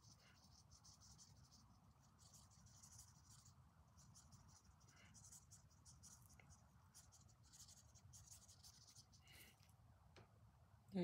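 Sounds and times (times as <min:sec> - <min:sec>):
paintbrush scratching on canvas: 0:00.0 - 0:09.4.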